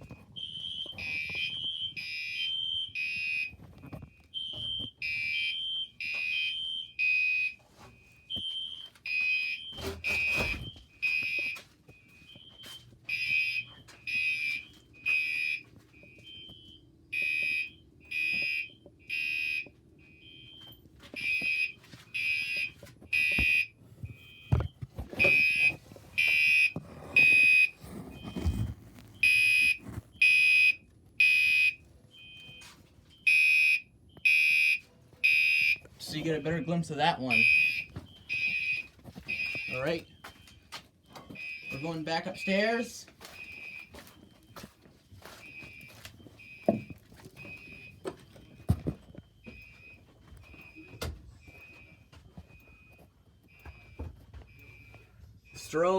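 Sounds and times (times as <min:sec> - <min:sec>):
fire alarm horn blasts: 0:00.2 - 0:28.6, 0:29.2 - 0:44.7, 0:45.3 - 0:48.7, 0:54.6 - 0:55.9.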